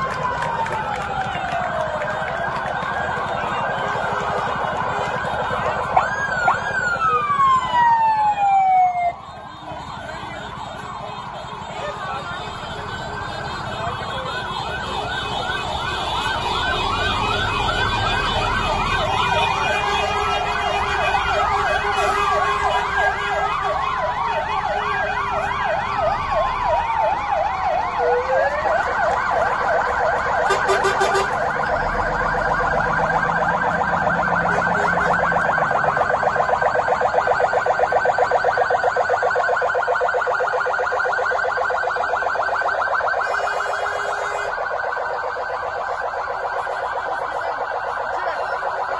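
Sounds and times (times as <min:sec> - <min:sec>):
fire engine sirens wailing: 0:00.0 - 0:48.9.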